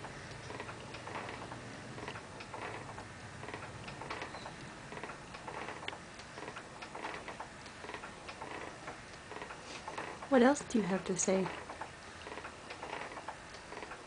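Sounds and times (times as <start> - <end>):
baby swing ticking: 0.0 - 14.0.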